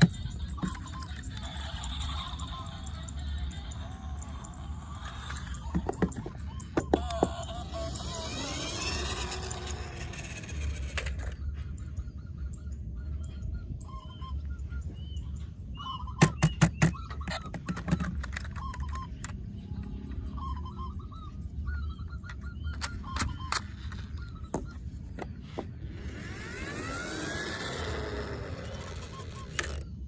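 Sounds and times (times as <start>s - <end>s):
honking bird calls: 0.0s - 30.0s
steady low hum: 0.0s - 30.0s.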